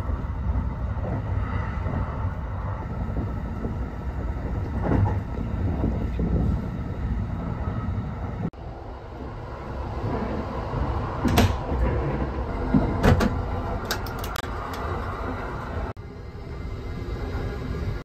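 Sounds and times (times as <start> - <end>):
low rumble of moving train: 0.0 - 18.0.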